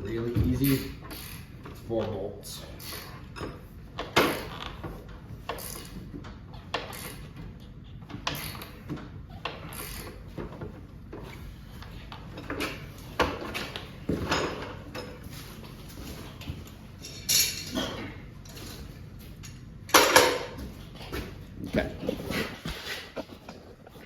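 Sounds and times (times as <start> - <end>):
tools and metal hardware rattling: 0.0 - 24.0.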